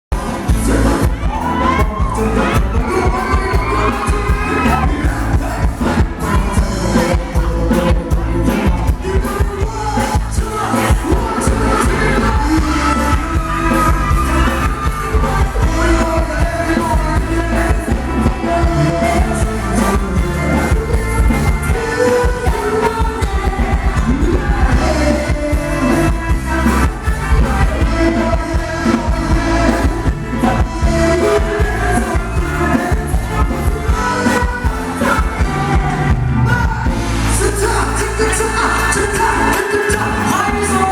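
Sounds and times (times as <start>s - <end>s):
live band playing dance music: 0.1s - 40.9s
person singing: 0.1s - 40.9s.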